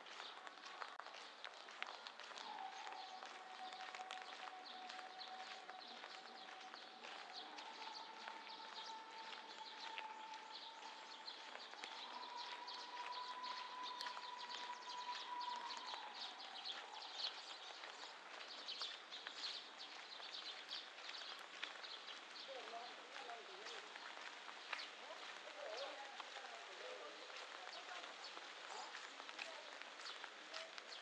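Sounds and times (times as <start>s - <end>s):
footsteps on wet road: 0.0s - 31.0s
light rain pattering and dripping: 0.0s - 31.0s.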